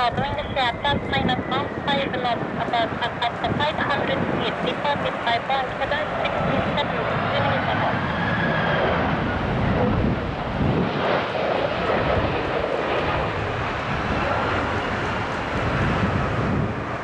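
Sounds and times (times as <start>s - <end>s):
jet engine rumble: 0.0s - 17.0s
jet engine whine: 0.0s - 17.0s.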